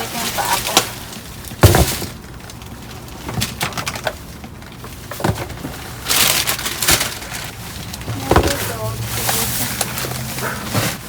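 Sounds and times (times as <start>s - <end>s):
rustling of packages: 0.0s - 11.0s.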